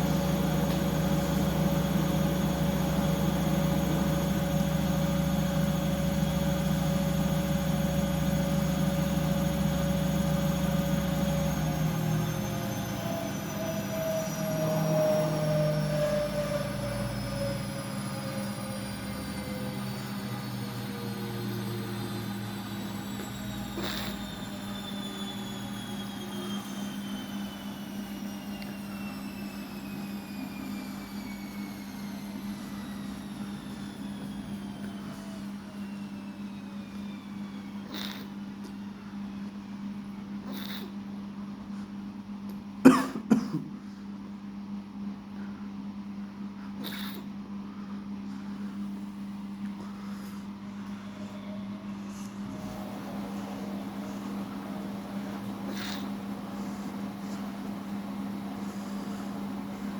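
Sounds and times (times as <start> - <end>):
washing machine motor hum: 0.0 - 43.5, 48.1 - 59.9
washing machine whine: 0.0 - 59.9.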